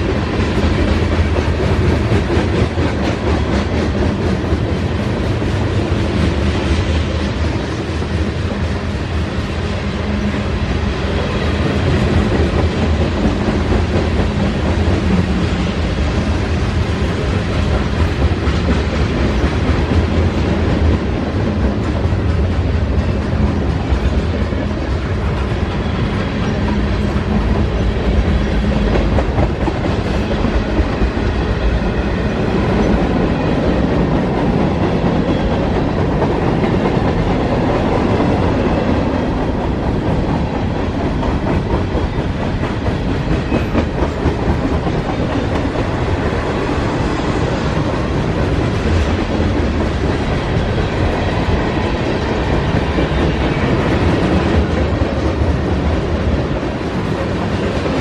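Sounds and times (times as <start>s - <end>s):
freight train rumbling past: 0.0s - 58.0s
wheels clacking on rails: 0.0s - 58.0s.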